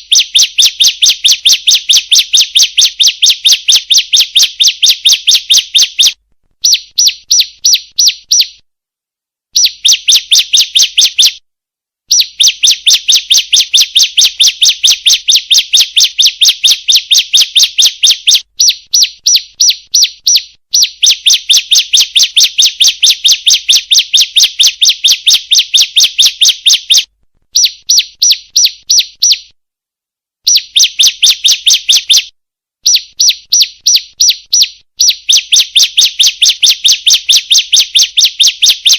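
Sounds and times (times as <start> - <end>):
bird high chirps: 0.0 - 8.6, 9.6 - 11.4, 12.1 - 29.6, 30.5 - 38.9.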